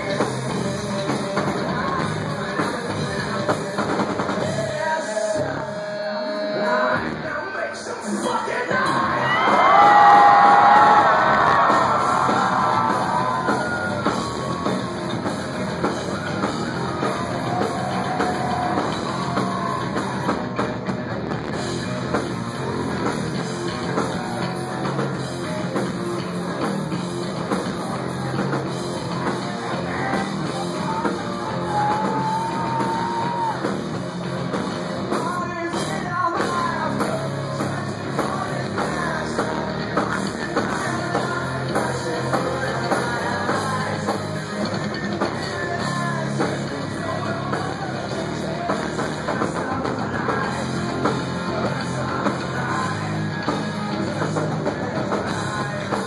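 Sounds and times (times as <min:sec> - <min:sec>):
person singing: 0:00.0 - 0:20.4, 0:23.8 - 0:33.8, 0:35.0 - 0:56.0
live rock band: 0:00.0 - 0:56.0.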